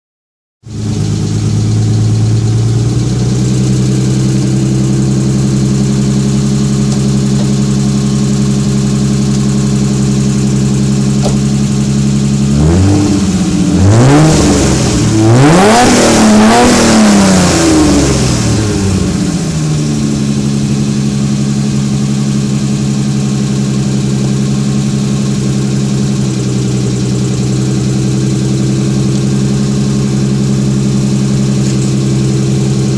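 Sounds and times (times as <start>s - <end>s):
car engine idling and revving: 0.7s - 32.9s.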